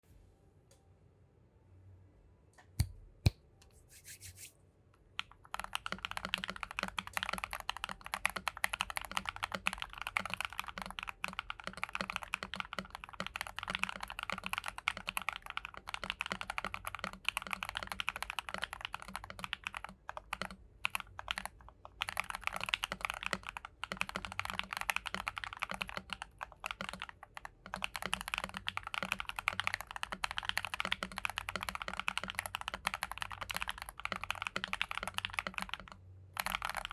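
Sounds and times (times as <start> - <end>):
typing on mechanical keyboard: 5.2 - 36.9.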